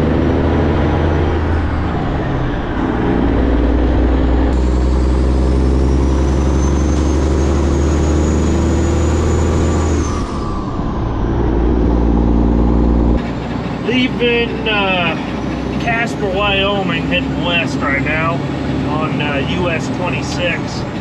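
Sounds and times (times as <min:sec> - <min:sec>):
truck diesel engine pulling: 0:00.0 - 0:21.0.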